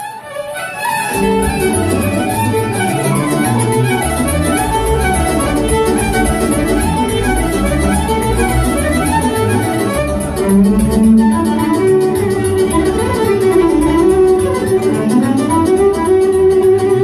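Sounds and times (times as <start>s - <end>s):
electric violin bowing a melody: 0.0s - 17.0s
backing music with strong bass: 1.1s - 17.0s.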